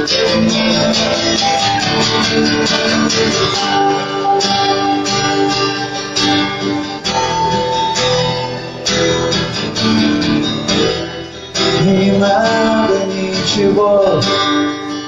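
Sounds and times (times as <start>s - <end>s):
strummed guitar chords: 0.0s - 15.0s.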